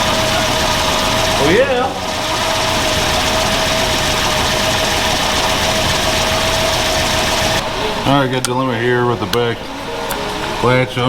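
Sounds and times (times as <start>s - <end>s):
constant hiss: 0.0s - 11.0s
engine idling: 0.0s - 11.0s
steady whine: 0.0s - 11.0s.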